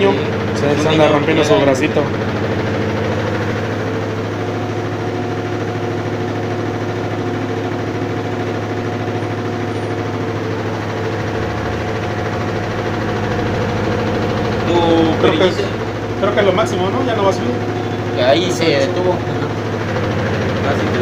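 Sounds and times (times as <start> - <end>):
washing machine spin cycle: 0.0 - 21.0.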